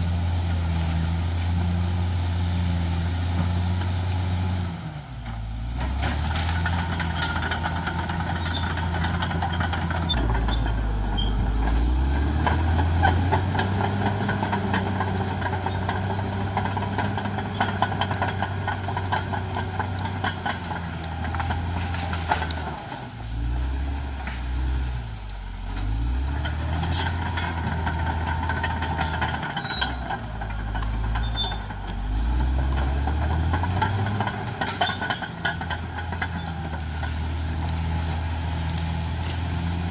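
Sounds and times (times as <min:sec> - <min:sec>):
bulldozer diesel engine under load: 0:00.0 - 0:39.9
dense crackling clatter: 0:05.2 - 0:39.9.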